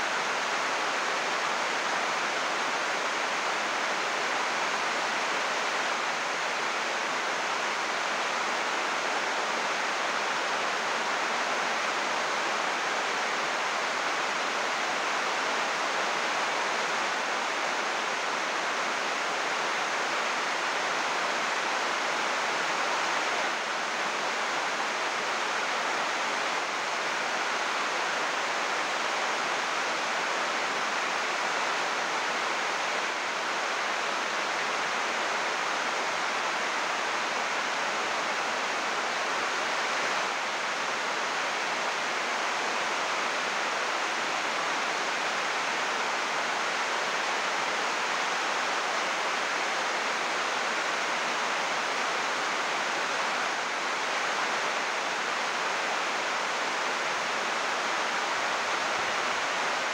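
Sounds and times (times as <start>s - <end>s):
heavy rain on plastic roof: 0.0s - 59.9s.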